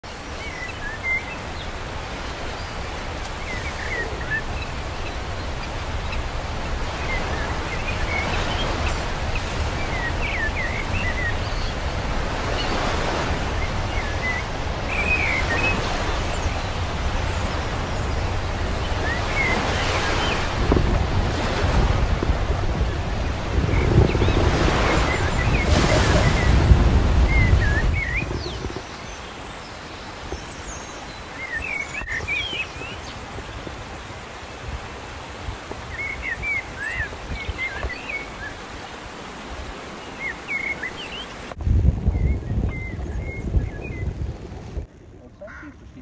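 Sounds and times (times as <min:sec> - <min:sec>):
wind rumbling on microphone: 0:00.0 - 0:46.0.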